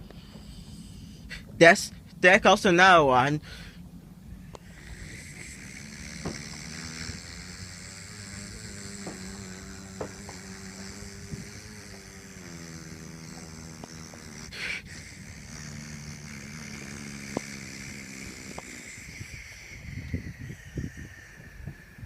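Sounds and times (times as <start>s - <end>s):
steady motor hum: 0.0s - 22.0s.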